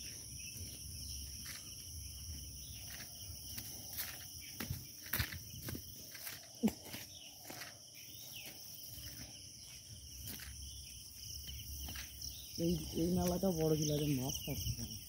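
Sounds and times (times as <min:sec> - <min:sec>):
footsteps crunching on leaves: 0:00.0 - 0:15.0
high-pitched insect chorus: 0:00.0 - 0:15.0.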